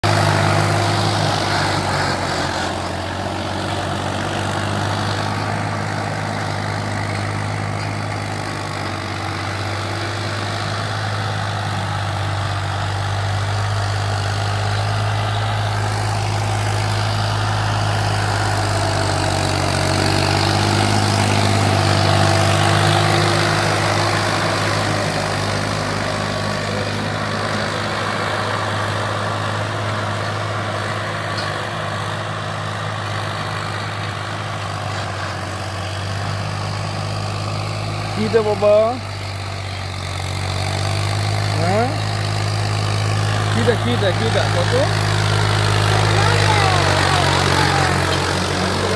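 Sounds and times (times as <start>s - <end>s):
tractor engine humming: 0.0s - 48.9s.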